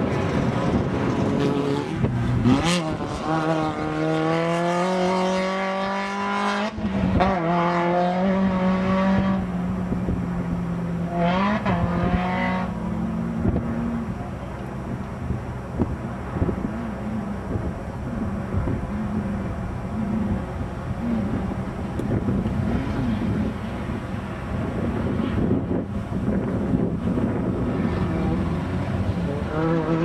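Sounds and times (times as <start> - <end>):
truck engine accelerating: 0.0 - 30.0.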